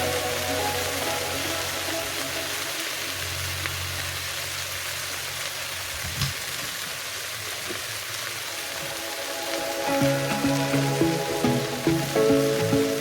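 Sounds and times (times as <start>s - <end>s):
shrimp sizzling in a pan: 0.0s - 13.0s.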